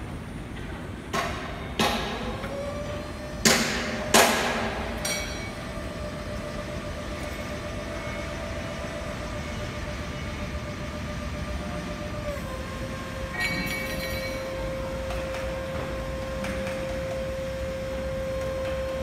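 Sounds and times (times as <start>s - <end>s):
hydraulic pump motor whining: 1.7s - 19.0s.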